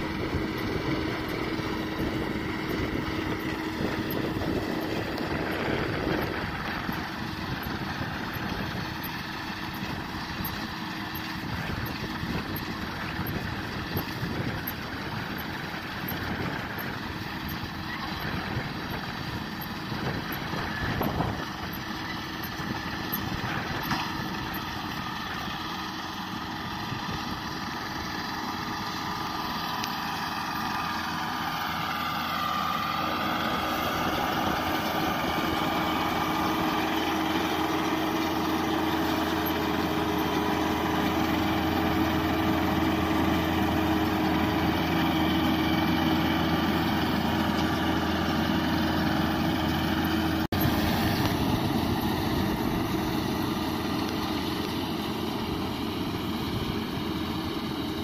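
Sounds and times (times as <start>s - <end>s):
tractor and baler humming: 0.0s - 58.0s.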